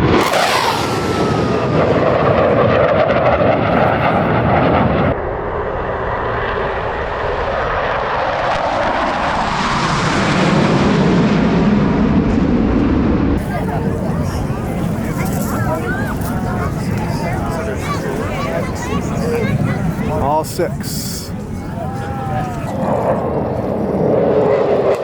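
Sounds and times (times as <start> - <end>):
jets roaring past: 0.0 - 25.0.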